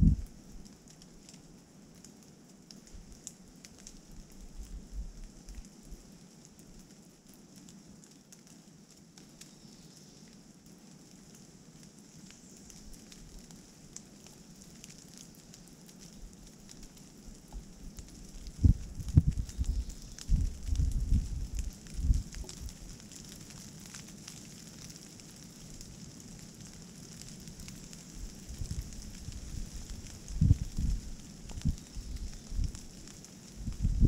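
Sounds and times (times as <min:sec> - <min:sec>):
light rain hiss: 0:00.0 - 0:34.0
water dripping from trees: 0:00.0 - 0:34.0.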